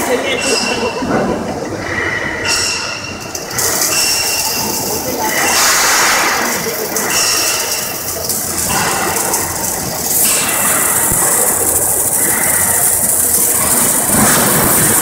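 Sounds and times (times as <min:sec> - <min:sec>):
welding arc hissing: 0:01.6 - 0:15.0.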